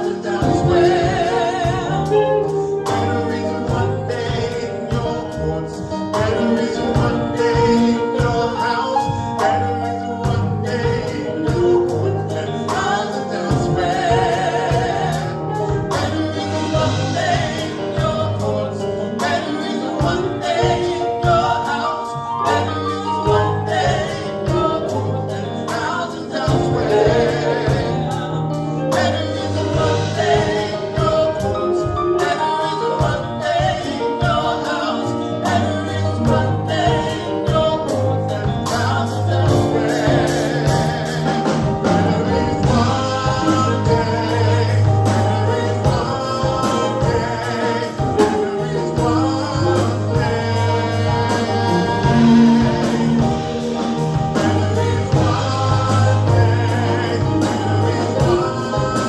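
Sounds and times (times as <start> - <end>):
band playing worship music: 0.0 - 59.0
drum beat: 0.0 - 59.0
people singing sustained notes: 0.0 - 59.0.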